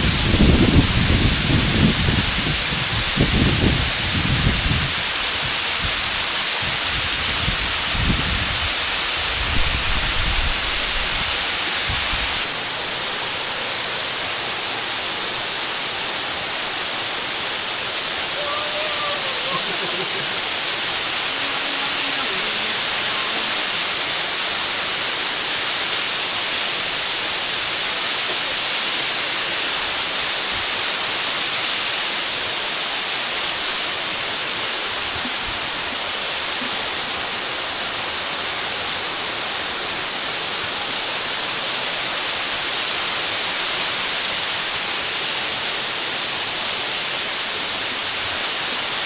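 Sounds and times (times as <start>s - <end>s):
waterfall pouring: 0.0s - 49.0s.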